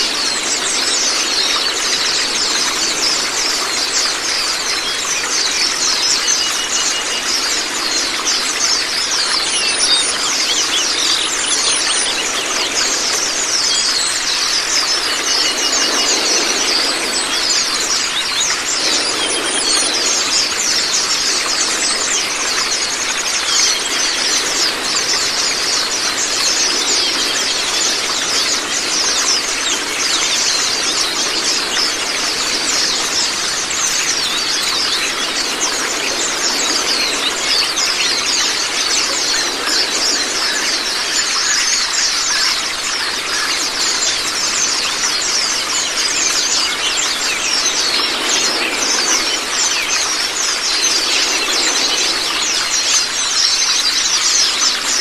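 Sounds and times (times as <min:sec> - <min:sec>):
birds twittering: 0:00.0 - 0:55.0
running water: 0:00.0 - 0:55.0.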